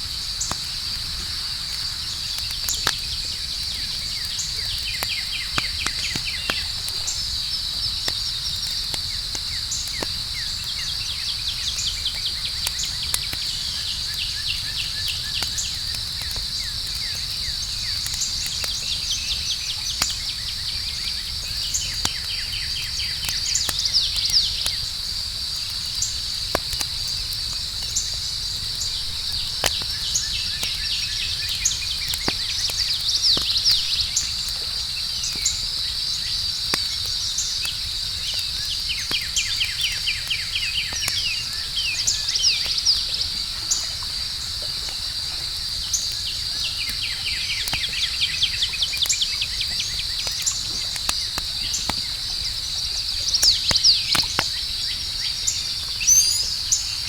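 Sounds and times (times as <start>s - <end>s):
campfire crackling and popping: 0.0s - 57.0s
crickets chirring: 0.0s - 57.0s.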